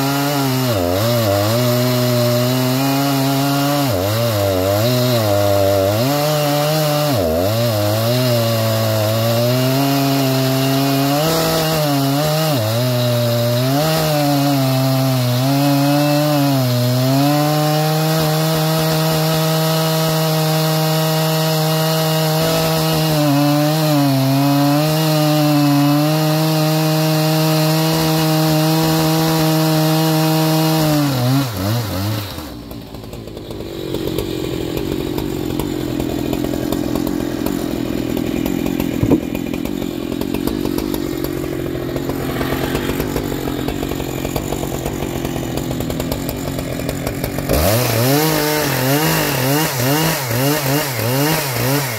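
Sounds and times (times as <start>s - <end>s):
chainsaw cutting log: 0.0s - 51.9s.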